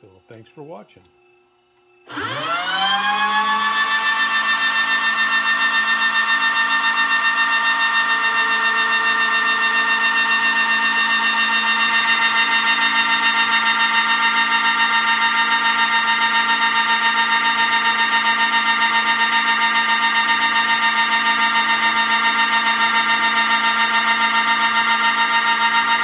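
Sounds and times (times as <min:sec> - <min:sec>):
motorised cutter high whine: 0:02.0 - 0:26.0.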